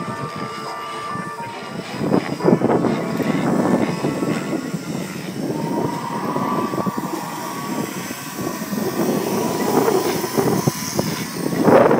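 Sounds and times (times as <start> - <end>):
rc helicopter whine: 0.0 - 11.9
wind buffeting microphone: 0.0 - 11.9.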